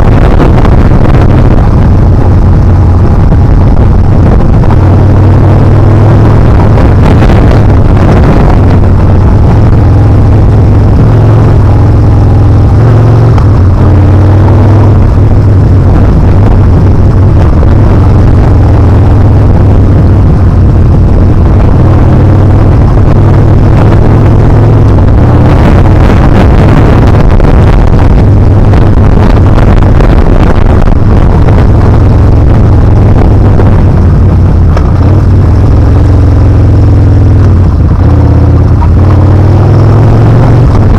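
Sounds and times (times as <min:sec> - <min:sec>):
motorcycle exhaust: 0:00.0 - 0:40.9
wind noise on microphone: 0:00.0 - 0:40.9.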